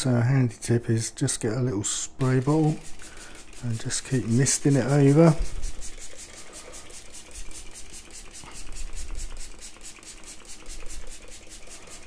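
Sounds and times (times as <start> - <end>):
spray bottle hissing: 2.2 - 12.0.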